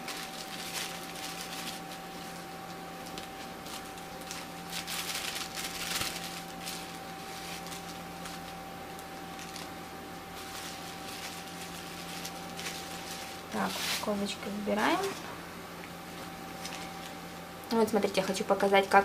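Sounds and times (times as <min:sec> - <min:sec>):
plastic packaging crinkling: 0:00.0 - 0:15.3, 0:16.1 - 0:17.4
faint steady hum: 0:00.0 - 0:19.0.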